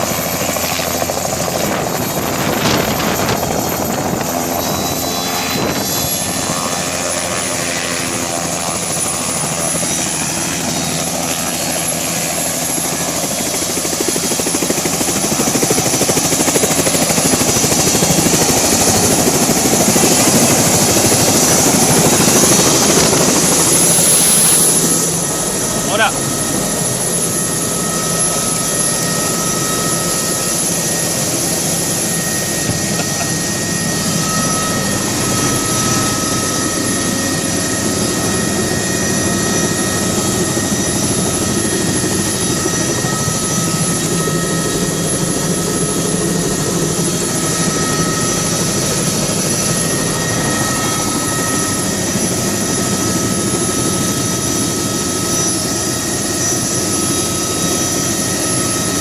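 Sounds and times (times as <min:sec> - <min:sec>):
high-pitched whines: 0:00.0 - 0:06.8, 0:17.1 - 0:59.0
helicopter rotor and engine: 0:00.0 - 0:59.0.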